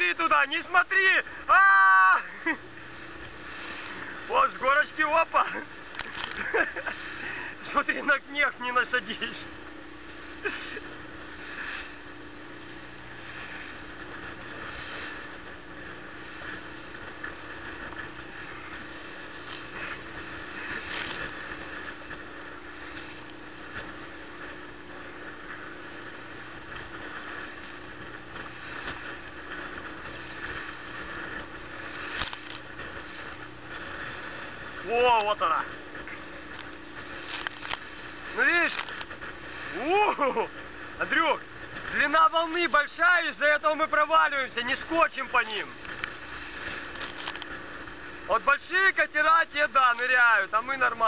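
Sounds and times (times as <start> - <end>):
motorboat engine running: 0.0 - 51.0
water splashing against hull: 0.0 - 51.0.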